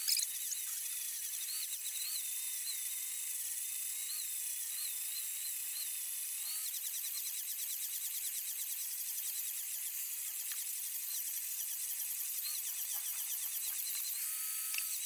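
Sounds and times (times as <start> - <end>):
power drill whine: 0.0 - 15.0.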